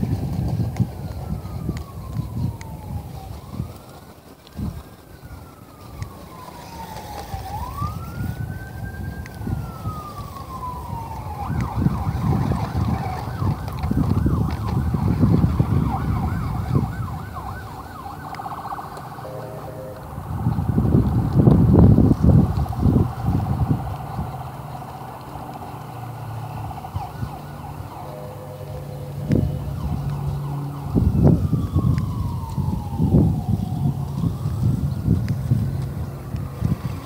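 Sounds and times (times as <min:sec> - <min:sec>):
wind noise on microphone: 0:00.0 - 0:37.0
siren wailing and yelping: 0:01.0 - 0:04.0, 0:04.6 - 0:37.0.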